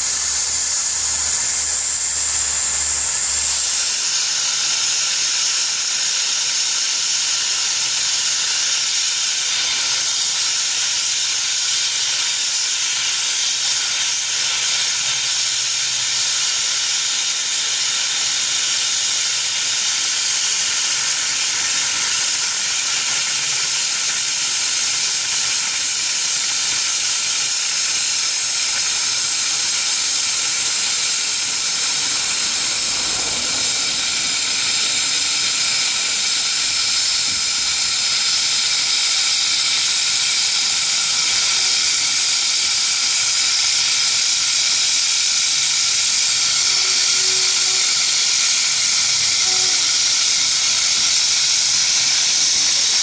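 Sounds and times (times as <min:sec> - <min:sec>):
steam hissing: 0:00.0 - 0:53.0.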